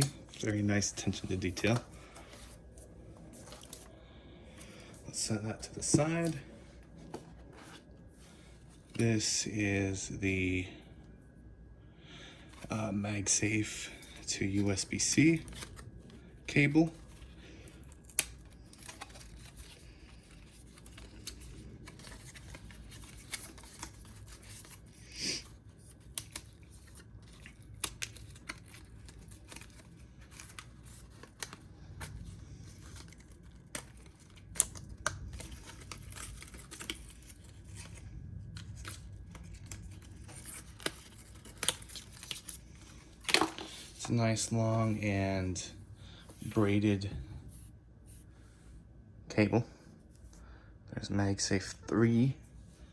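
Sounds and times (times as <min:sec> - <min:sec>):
soft rustling of packaging: 0:00.0 - 0:50.4.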